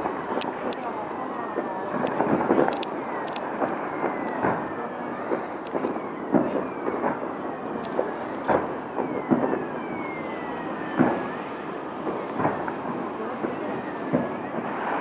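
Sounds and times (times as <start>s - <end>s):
fireworks bangs: 0.0s - 15.0s
falling firework whistles: 1.5s - 15.0s.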